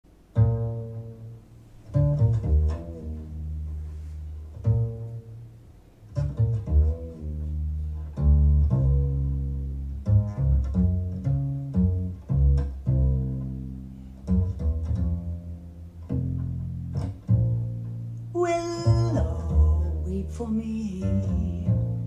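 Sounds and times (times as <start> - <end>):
plucked upright bass: 0.1 - 22.0.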